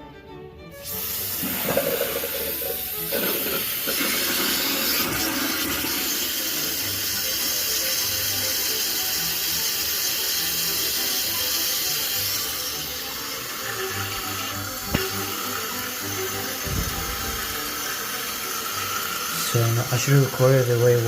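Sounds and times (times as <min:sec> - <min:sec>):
toilet fill valve hissing: 0:00.8 - 0:21.0.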